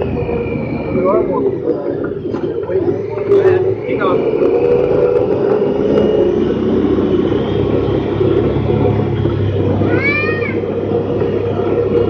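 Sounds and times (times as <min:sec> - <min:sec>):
tyres rumbling on gravel: 0:00.0 - 0:12.0
vehicle engine running: 0:00.0 - 0:12.0.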